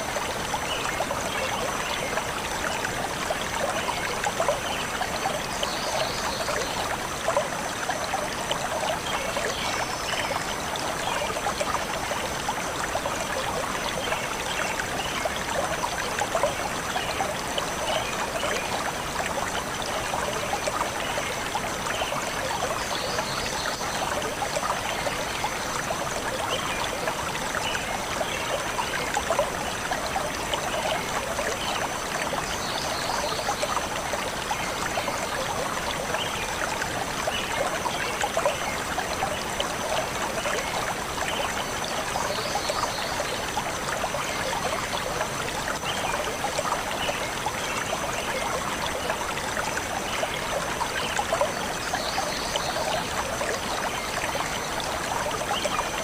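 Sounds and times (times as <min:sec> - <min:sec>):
stream water trickling over stones: 0:00.0 - 0:56.0.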